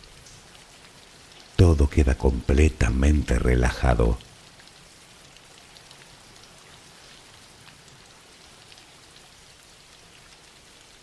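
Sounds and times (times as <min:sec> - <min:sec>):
soft rain patter: 0:00.0 - 0:11.0.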